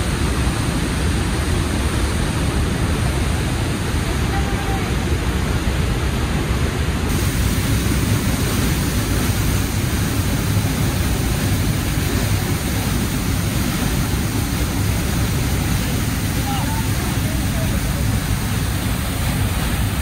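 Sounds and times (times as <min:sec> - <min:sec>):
waterfall rushing water: 0:00.0 - 0:20.0.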